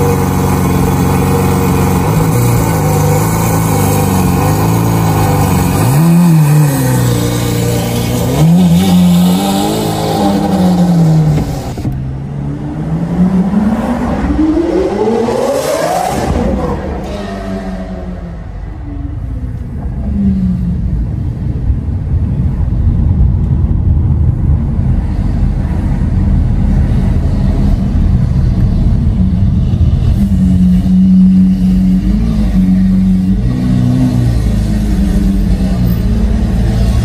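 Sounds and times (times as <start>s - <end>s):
sports car engine deep rumble: 0.0s - 37.0s.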